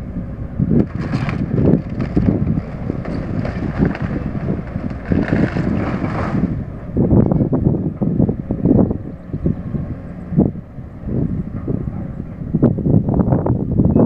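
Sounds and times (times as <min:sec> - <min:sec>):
low rumble: 0:00.0 - 0:14.0
wind buffeting the microphone: 0:00.0 - 0:14.0.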